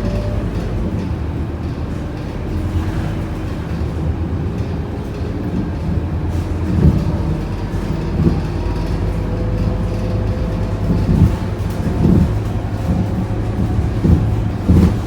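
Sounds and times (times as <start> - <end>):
bus diesel engine running: 0.0 - 15.0
road rumble: 0.0 - 15.0.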